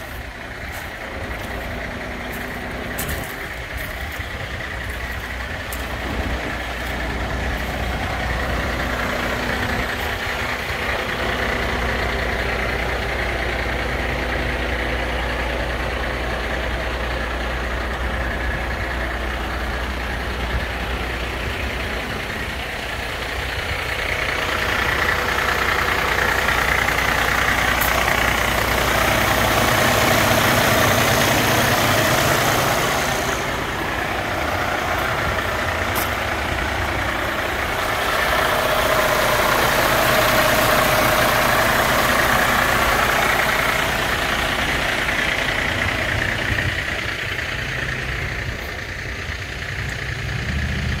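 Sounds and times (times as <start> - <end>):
diesel truck engine idling: 0.0 - 51.0.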